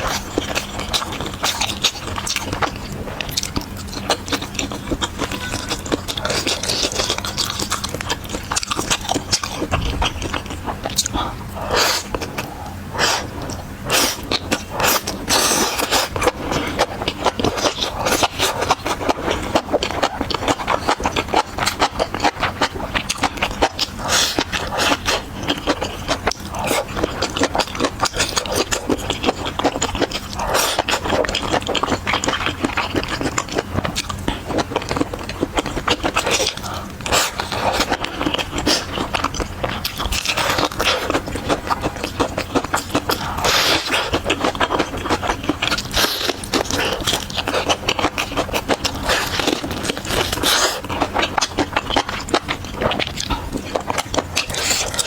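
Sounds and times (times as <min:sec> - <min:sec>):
chewing and biting: 0:00.0 - 0:55.0.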